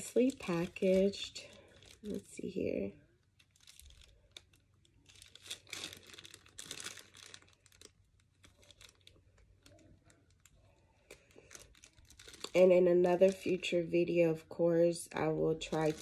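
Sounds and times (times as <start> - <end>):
packaging crinkling: 0.0 - 13.8, 15.6 - 16.0.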